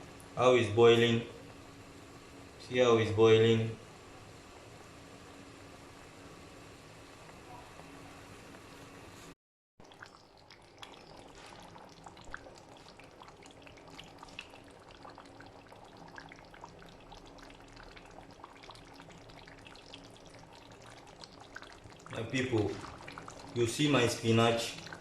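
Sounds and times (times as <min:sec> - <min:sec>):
pot of food bubbling: 0:00.0 - 0:00.4, 0:01.0 - 0:02.6, 0:03.3 - 0:09.2, 0:09.8 - 0:25.0.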